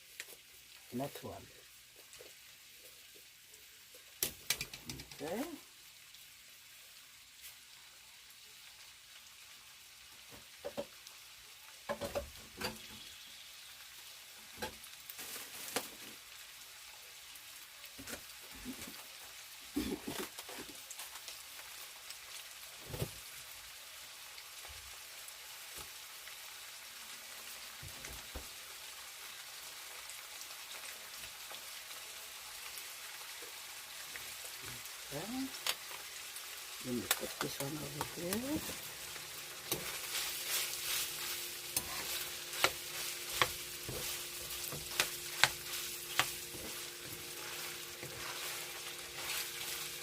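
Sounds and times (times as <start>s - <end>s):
pork sizzling in hot oil: 0.0s - 50.0s.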